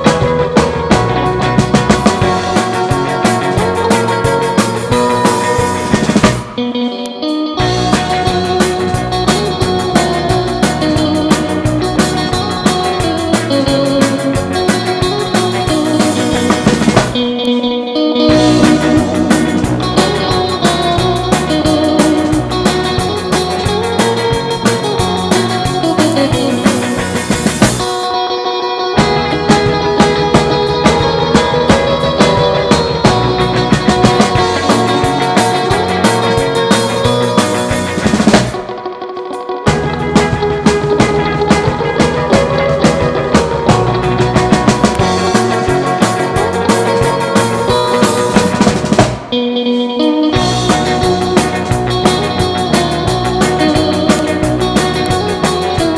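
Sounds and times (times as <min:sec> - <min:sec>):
electric guitar: 0:00.0 - 0:55.9
rock band playing: 0:00.0 - 0:55.9.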